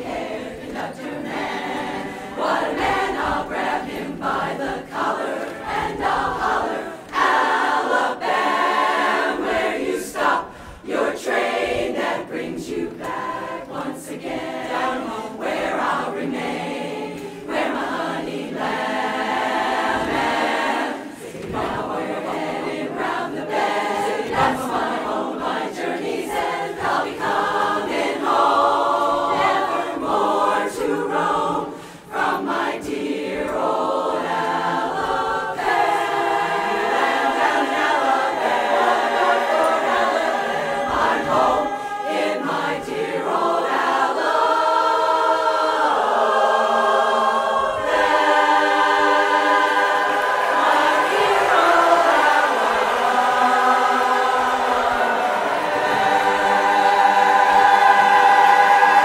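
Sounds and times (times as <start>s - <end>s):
women's chorus singing a cappella: 0.0s - 59.0s.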